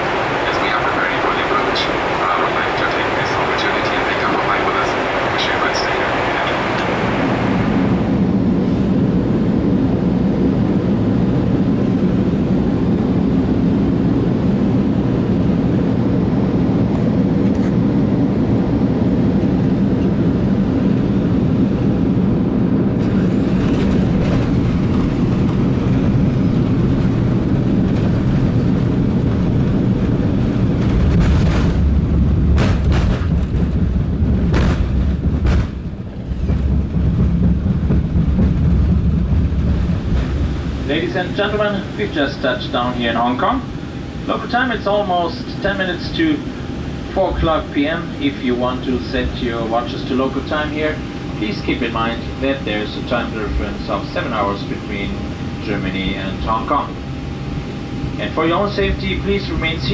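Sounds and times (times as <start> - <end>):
heavy low rumble: 0.0 - 59.9
jet engines and airflow roar: 0.0 - 59.9.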